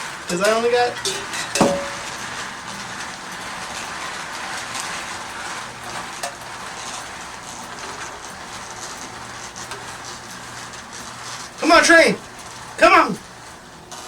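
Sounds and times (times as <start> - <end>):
toy train mechanical whir: 0.0 - 14.0.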